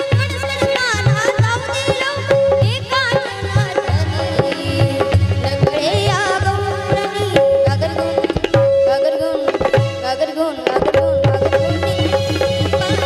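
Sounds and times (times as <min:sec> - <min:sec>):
girl singing: 0:00.0 - 0:13.0
tabla playing a rhythm: 0:00.0 - 0:13.0.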